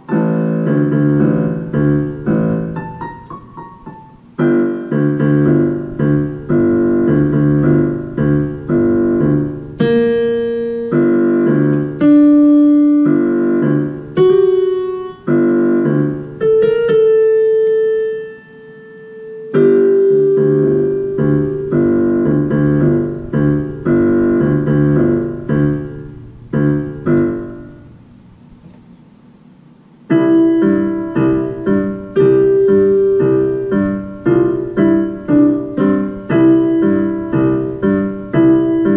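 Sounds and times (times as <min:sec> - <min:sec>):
digital piano chords: 0:00.0 - 0:28.6, 0:29.9 - 0:38.9.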